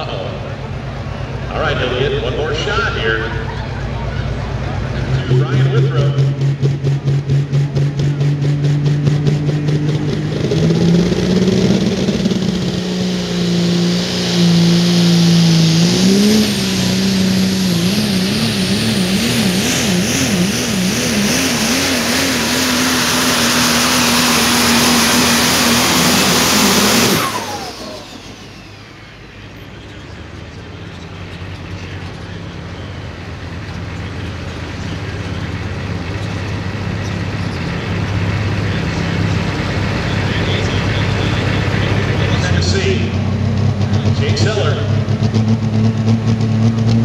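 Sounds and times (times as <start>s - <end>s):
diesel truck engine at full throttle: 0.0s - 47.0s
turbocharger whine winding down: 0.0s - 47.0s.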